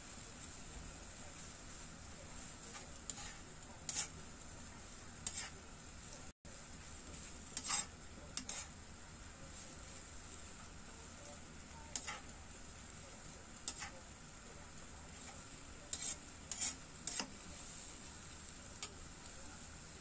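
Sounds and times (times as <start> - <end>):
hot oil sizzling: 0.0 - 20.0
spatula scraping a wok: 0.0 - 20.0.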